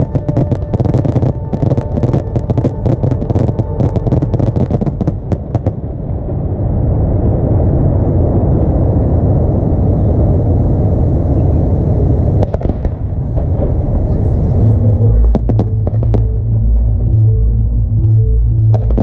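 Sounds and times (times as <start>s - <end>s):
low fireworks rumble: 0.0s - 19.0s.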